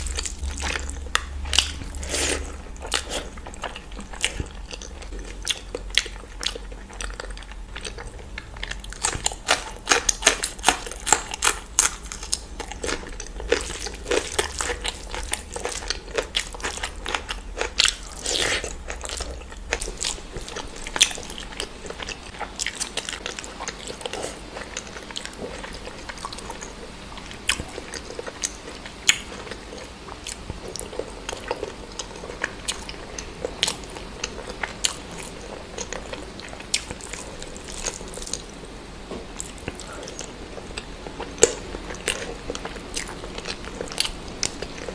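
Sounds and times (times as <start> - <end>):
person chewing food: 0.0 - 38.6, 39.2 - 44.9.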